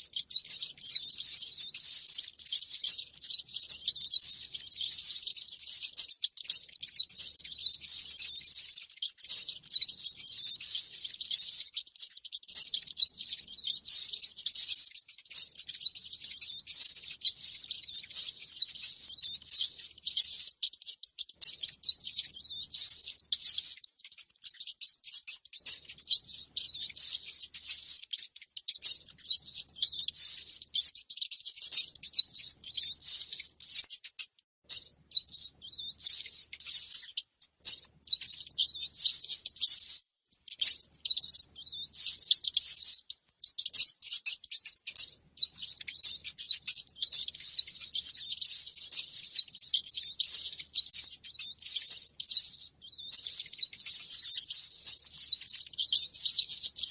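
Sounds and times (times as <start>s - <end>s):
rats squeaking and chattering: 0.0s - 56.9s.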